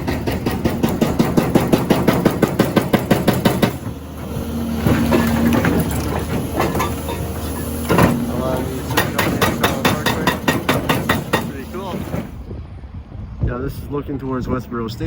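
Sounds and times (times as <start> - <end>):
hydraulic breaker hammering rock: 0.0 - 12.4
machine engine running: 0.0 - 12.5.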